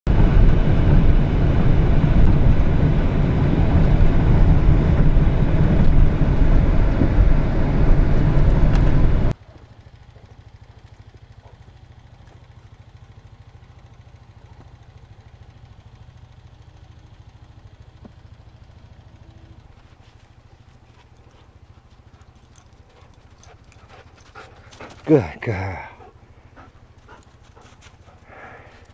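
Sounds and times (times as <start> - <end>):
car road and engine rumble: 0.1 - 28.9.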